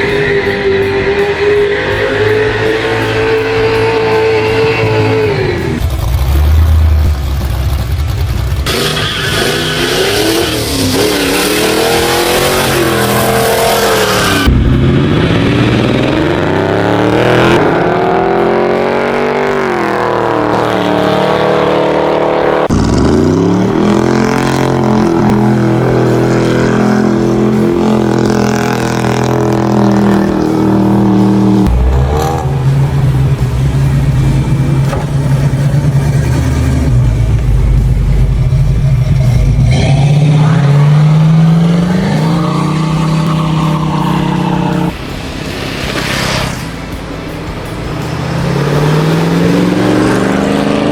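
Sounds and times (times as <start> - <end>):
car engines revving and accelerating: 0.0 - 50.9.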